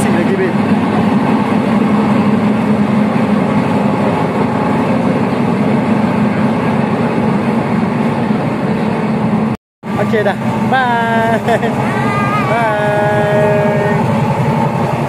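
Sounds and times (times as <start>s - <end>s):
locomotive engine droning: 0.0s - 15.0s.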